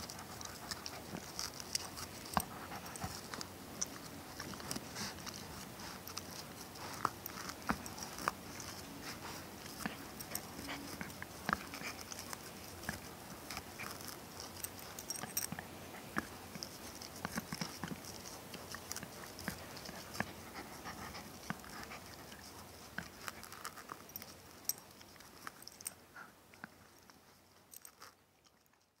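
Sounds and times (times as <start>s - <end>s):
puppy chewing a tennis ball: 0.0s - 29.0s.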